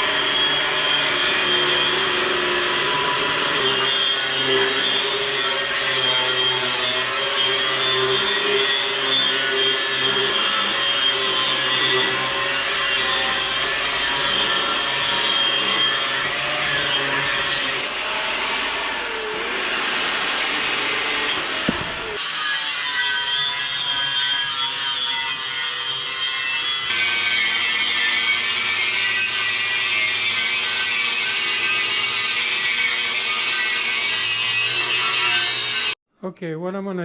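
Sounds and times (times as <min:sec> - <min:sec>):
power tool cutting steel plate: 0:00.0 - 0:36.0.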